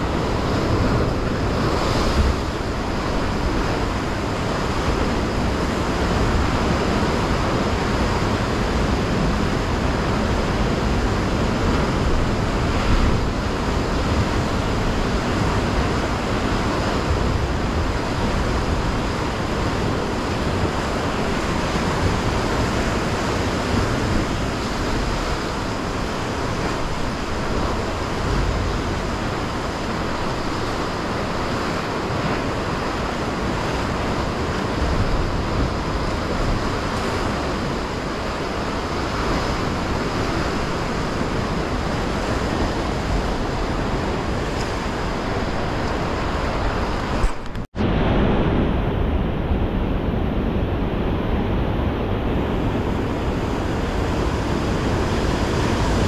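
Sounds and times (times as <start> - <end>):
sea surf crashing on rocks: 0.0 - 56.0
wind rumbling on microphone: 0.0 - 56.0.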